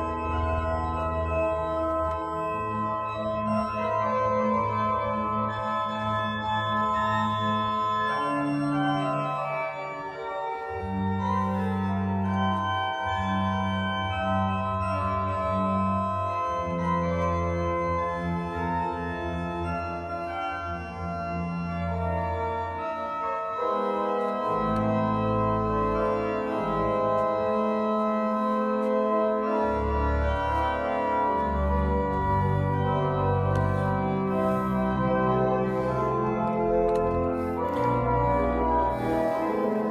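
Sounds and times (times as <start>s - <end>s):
church organ playing: 0.0s - 39.9s.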